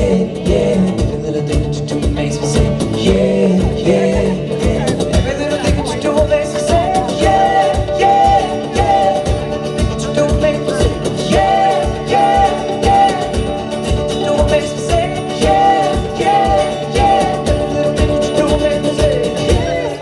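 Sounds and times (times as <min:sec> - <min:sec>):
guitar: 0:00.0 - 0:20.0
person singing: 0:00.0 - 0:20.0
steady drum beat: 0:00.0 - 0:20.0.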